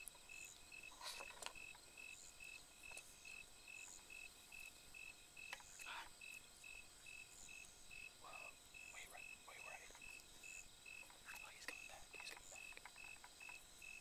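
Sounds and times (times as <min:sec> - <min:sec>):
cricket chirping: 0:00.0 - 0:14.0
high insect tone: 0:00.0 - 0:14.0.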